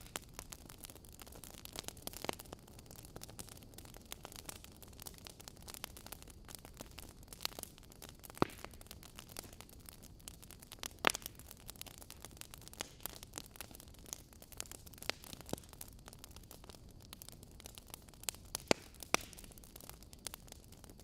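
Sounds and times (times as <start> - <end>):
hiss of burning logs: 0.0 - 21.0
wood fire crackling and popping: 0.0 - 21.0.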